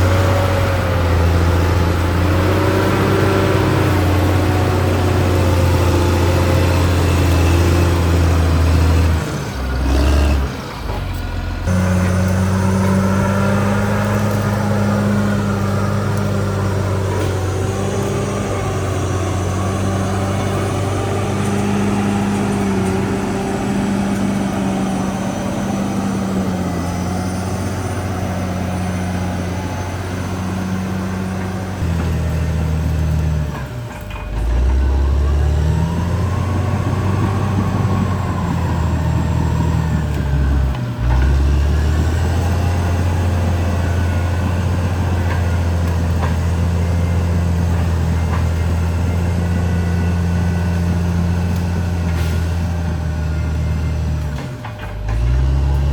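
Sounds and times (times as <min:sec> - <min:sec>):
bulldozer diesel engine humming: 0:00.0 - 0:55.9.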